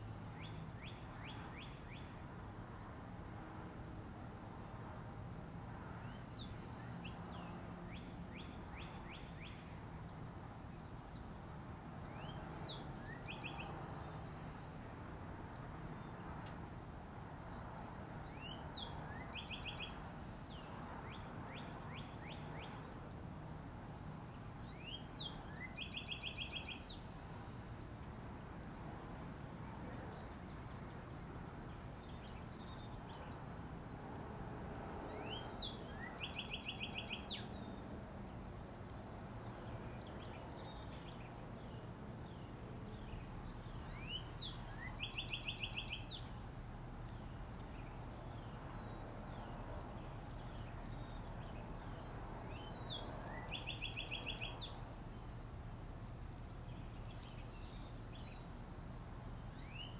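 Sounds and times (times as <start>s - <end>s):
songbird singing: 0.2s - 3.2s, 5.8s - 59.9s.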